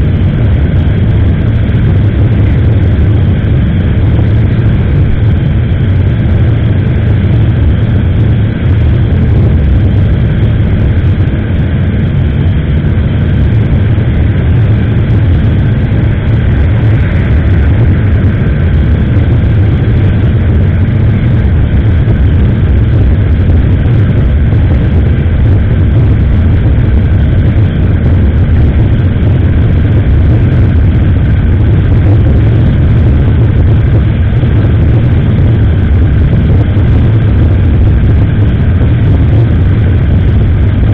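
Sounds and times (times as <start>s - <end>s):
road noise: 0.0s - 40.9s
wind rumble on microphone: 0.0s - 40.9s.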